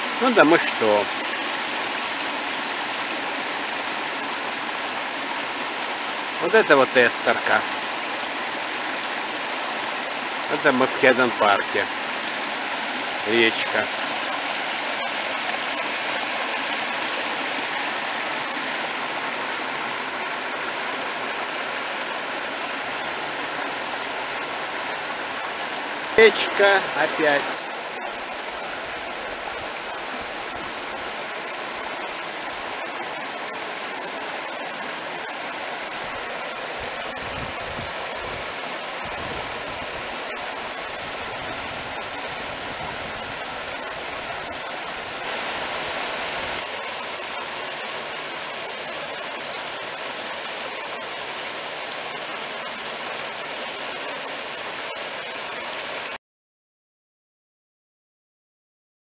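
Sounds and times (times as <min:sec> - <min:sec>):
stream rushing over rocks: 0:00.0 - 0:56.2.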